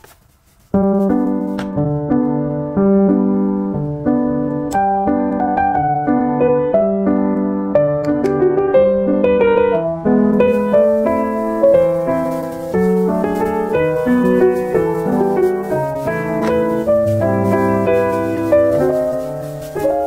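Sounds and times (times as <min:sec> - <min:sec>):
piano music: 0:00.8 - 0:20.0.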